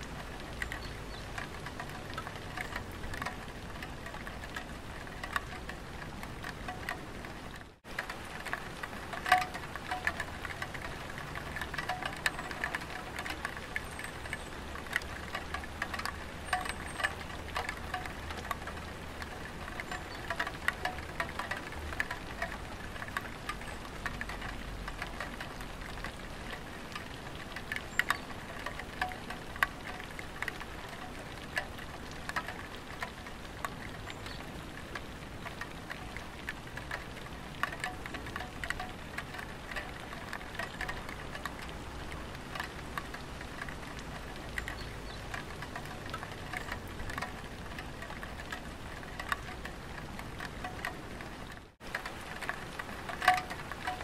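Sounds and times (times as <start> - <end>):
rain on a tiled roof: 0.0 - 54.0.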